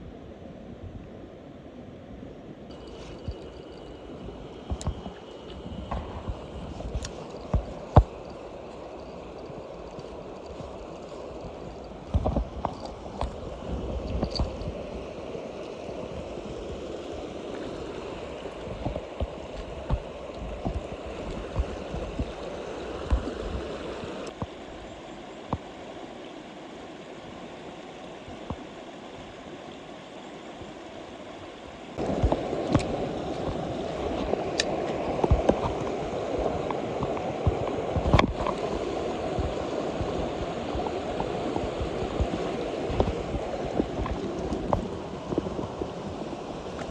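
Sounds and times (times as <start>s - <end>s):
stream rushing over rocks: 2.7s - 46.9s.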